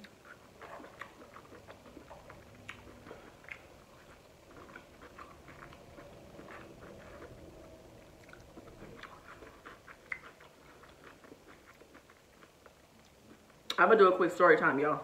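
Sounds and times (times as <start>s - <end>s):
chewing clicks: 0.0s - 13.8s.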